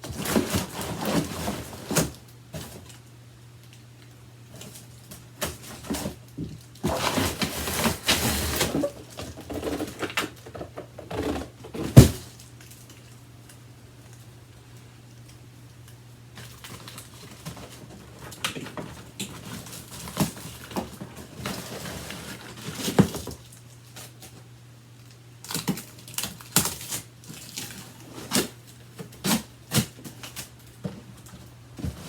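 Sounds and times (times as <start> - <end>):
rustling and crackling packing: 0.0 - 32.0.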